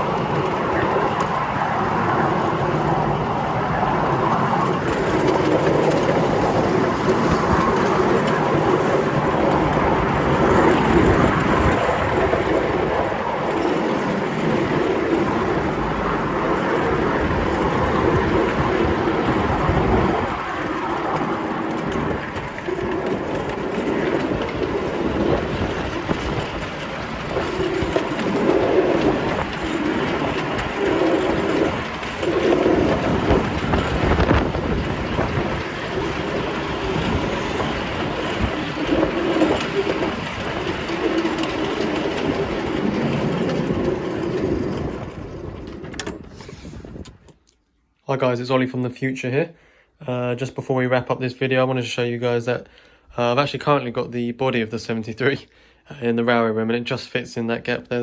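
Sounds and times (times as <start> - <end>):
miniature train wheels rumbling on rail: 0.0 - 47.6.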